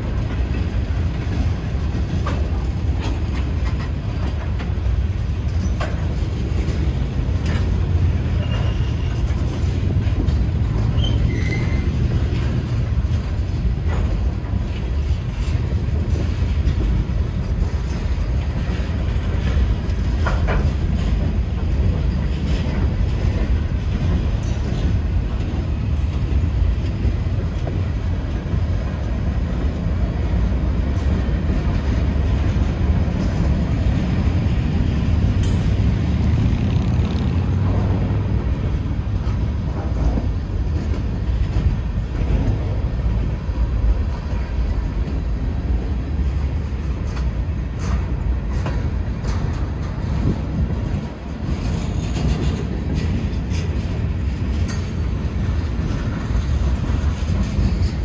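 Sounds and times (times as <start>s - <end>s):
freight train wheels rumbling on rail: 0.0s - 58.0s.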